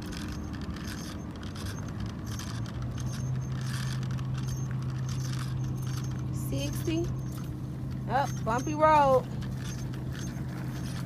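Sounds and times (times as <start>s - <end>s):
low engine hum: 0.0s - 11.0s
measuring wheel rattling on ground: 0.0s - 11.0s.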